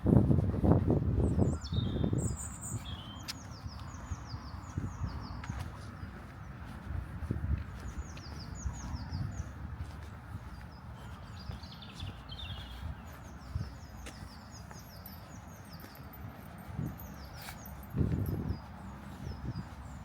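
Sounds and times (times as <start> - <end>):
footsteps on a path: 0.0 - 20.0
birds chirping: 1.2 - 20.0.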